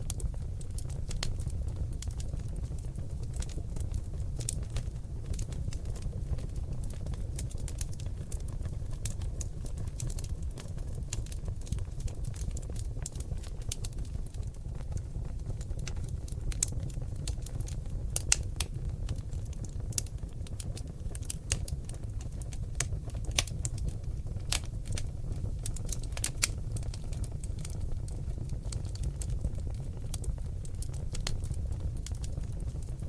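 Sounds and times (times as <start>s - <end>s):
logs crackling and popping: 0.0s - 33.0s
low rumble of flames: 0.0s - 33.0s.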